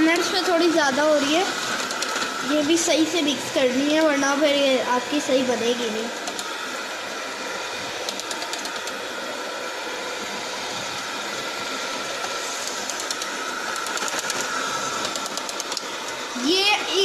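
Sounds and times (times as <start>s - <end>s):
electric hand mixer kneading dough: 0.0s - 17.0s.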